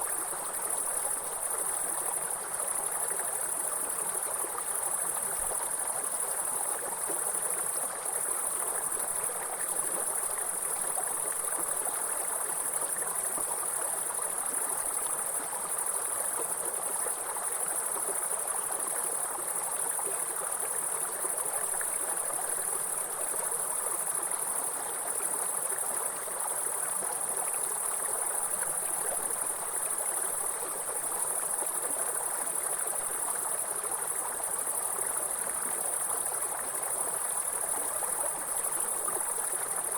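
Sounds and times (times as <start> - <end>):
crickets chirping: 0.0 - 39.9
mountain stream running: 0.0 - 39.9.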